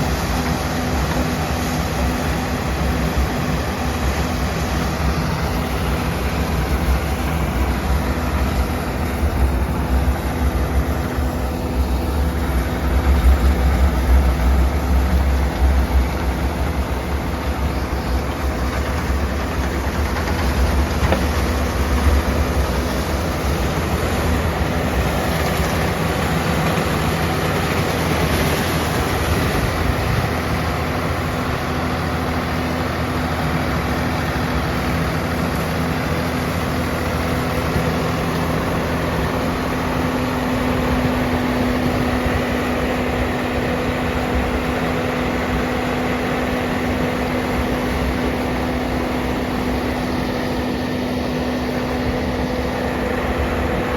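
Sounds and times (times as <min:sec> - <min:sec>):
tractor diesel engine droning: 0:00.0 - 0:53.9.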